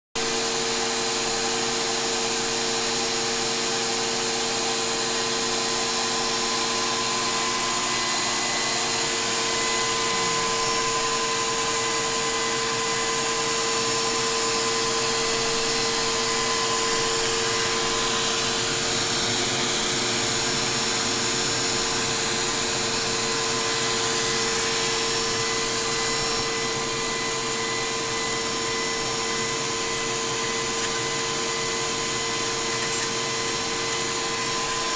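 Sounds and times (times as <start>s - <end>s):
small electric motor whirring: 3.9s - 34.9s.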